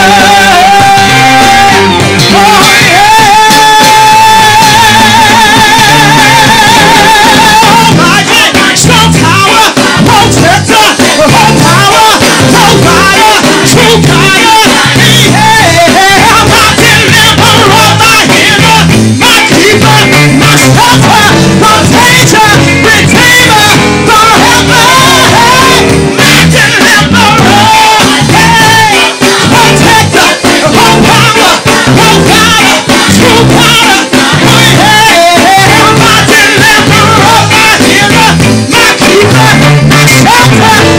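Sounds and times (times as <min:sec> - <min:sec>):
gospel singing over a band: 0:00.0 - 0:40.9.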